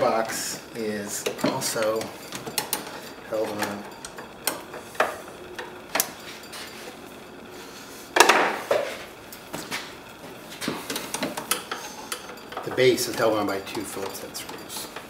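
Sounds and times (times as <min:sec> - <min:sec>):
parts clattering: 0:00.0 - 0:07.1, 0:08.1 - 0:15.0.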